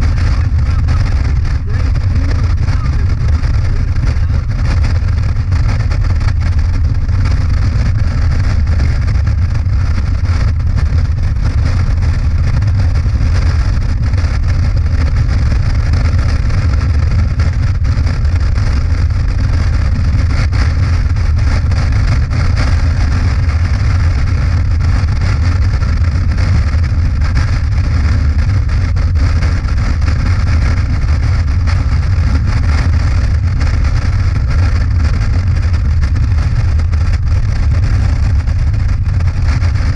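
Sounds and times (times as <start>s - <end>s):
motorcycle engine drone: 0.0s - 39.9s
road and wind noise: 0.0s - 39.9s.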